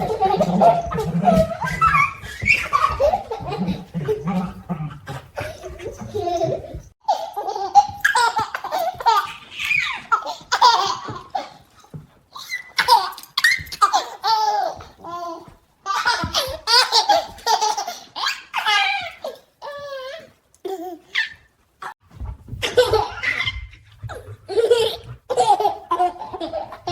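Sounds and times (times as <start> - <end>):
baby laughing and squealing: 0.0 - 4.6, 5.4 - 11.6, 12.4 - 21.4, 22.6 - 26.9.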